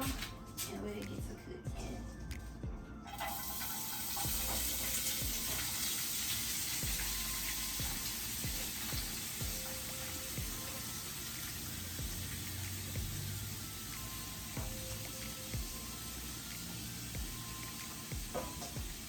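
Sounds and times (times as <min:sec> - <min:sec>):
cabbage sizzling in hot oil: 0:03.2 - 0:19.0.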